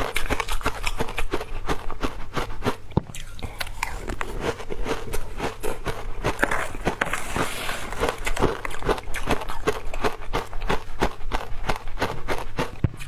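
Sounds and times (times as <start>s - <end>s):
crunchy ice chewing: 0.0s - 13.0s.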